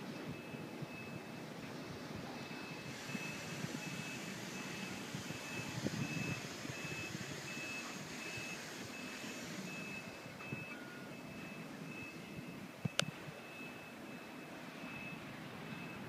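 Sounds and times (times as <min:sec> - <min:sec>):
low engine rumble: 0:00.0 - 0:16.0
reversing alarm beeping: 0:00.0 - 0:16.0.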